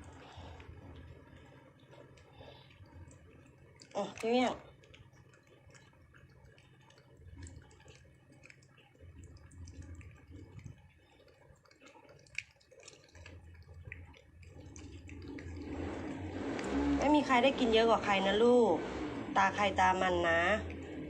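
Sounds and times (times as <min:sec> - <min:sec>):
cats licking and smacking: 0:00.0 - 0:21.0.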